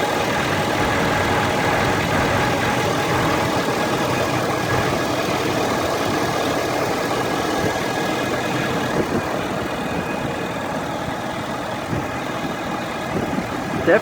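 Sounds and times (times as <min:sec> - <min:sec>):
diesel engine idling: 0:00.0 - 0:14.0
steady whine: 0:00.0 - 0:14.0.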